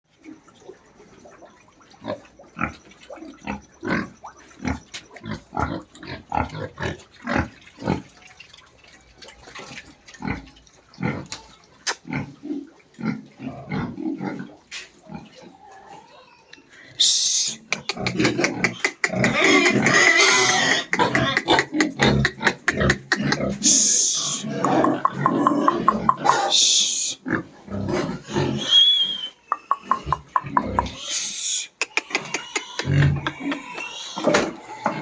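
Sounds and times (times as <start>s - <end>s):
pigs grunting: 0.2s - 8.3s, 9.6s - 16.3s, 17.6s - 35.0s.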